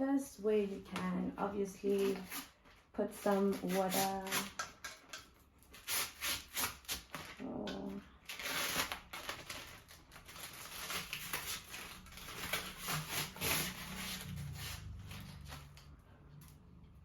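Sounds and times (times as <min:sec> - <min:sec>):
packaging rustling and crinkling: 0:00.7 - 0:15.9.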